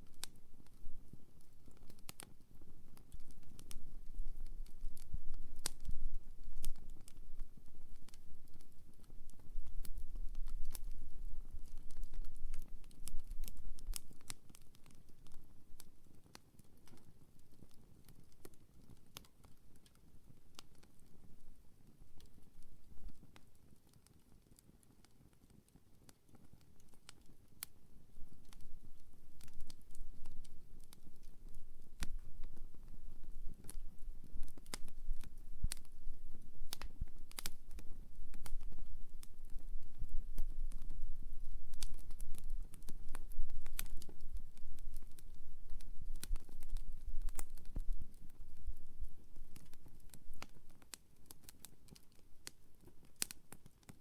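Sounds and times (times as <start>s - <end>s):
campfire crackling: 0.0s - 54.0s
fire pops and snaps: 0.0s - 54.0s.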